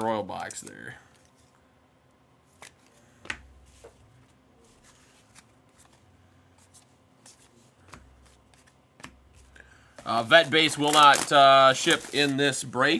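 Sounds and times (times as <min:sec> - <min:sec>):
trading cards being handled: 0:02.4 - 0:12.9.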